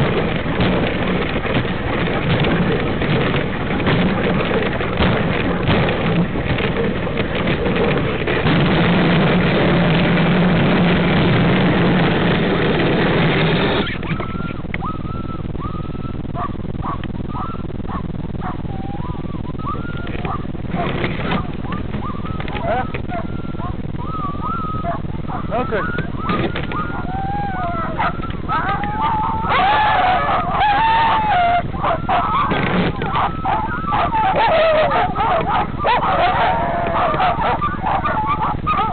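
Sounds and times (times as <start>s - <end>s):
sled runners scraping snow: 0.0s - 14.6s, 19.6s - 38.9s
dogs whining and yelping: 0.0s - 38.9s
steady low rumble: 0.0s - 38.9s.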